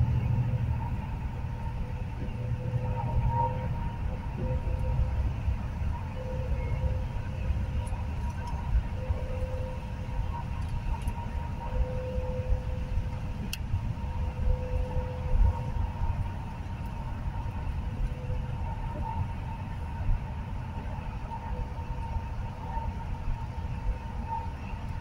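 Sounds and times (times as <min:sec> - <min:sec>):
faint steady whine: 0:00.0 - 0:25.0
tyre and wind road noise: 0:00.0 - 0:25.0.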